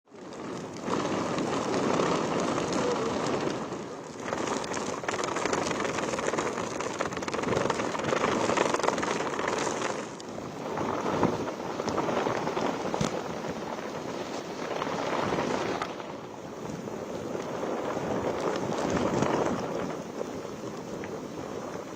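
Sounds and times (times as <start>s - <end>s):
gusting wind: 0.1s - 21.9s
heavy rain: 0.1s - 21.9s.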